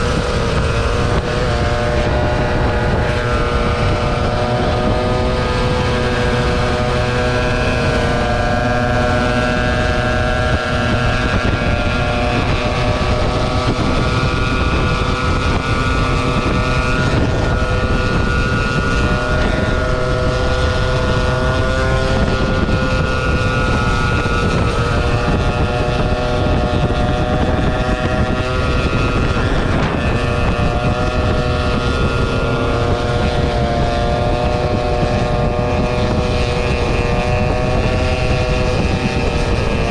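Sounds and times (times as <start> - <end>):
motor scooter engine running: 0.0 - 39.9
wind noise on microphone: 0.0 - 39.9.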